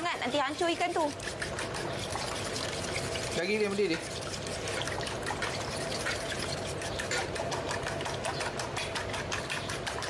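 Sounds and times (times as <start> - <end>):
gravy simmering with pops: 0.0 - 10.0
ladle pouring liquid: 1.1 - 10.0.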